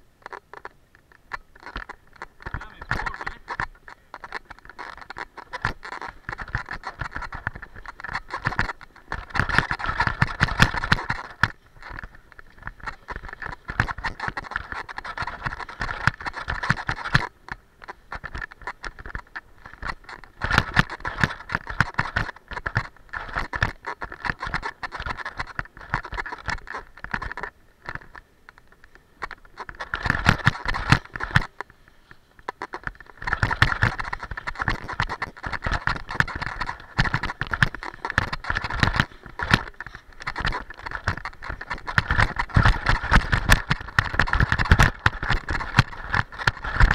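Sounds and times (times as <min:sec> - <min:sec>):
skis scraping over crusty snow: 0:02.4 - 0:27.0, 0:29.7 - 0:46.9.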